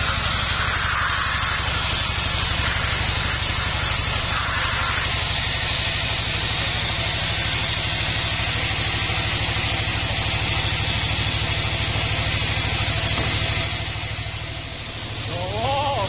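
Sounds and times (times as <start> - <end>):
band saw cutting through log: 0.0 - 16.0.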